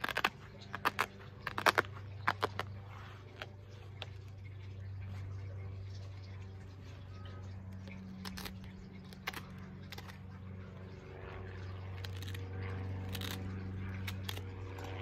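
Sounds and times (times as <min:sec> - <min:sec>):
gloved hands scraping and rustling: 0:00.0 - 0:10.4, 0:11.7 - 0:15.0
low engine drone: 0:00.0 - 0:15.0.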